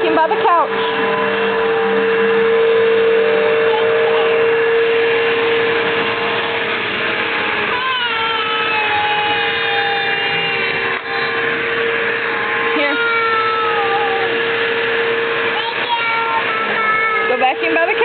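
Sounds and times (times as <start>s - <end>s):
higher tone sliding down: 0.0s - 18.0s
upright vacuum cleaner running: 0.0s - 18.0s.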